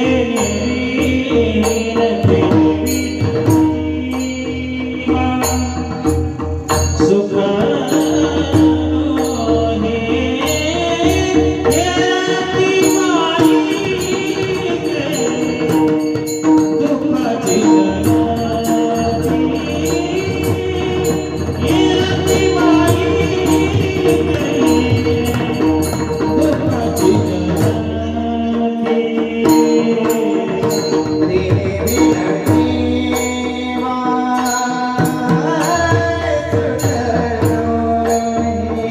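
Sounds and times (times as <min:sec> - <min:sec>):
hand drum beat: 0:01.0 - 0:38.9
person singing gliding vocal line: 0:07.0 - 0:38.9.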